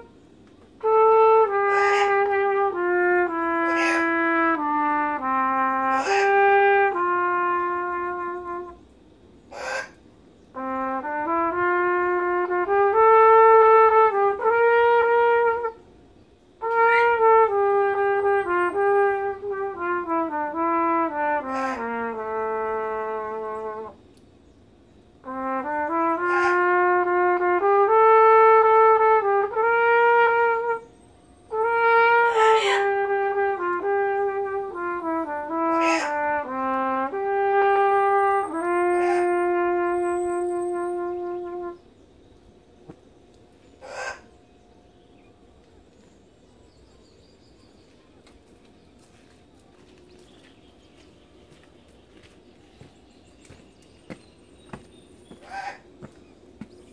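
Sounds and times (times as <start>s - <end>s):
solo trumpet melody: 0.0s - 9.8s, 10.5s - 24.2s, 25.1s - 56.0s.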